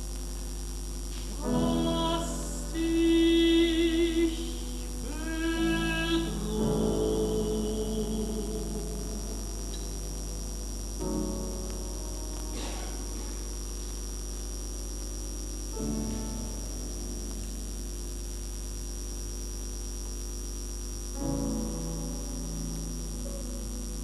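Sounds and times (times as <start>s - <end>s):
piano chords: 0.0s - 14.2s, 15.7s - 18.3s, 21.2s - 24.0s
electrical mains hum: 0.0s - 24.0s.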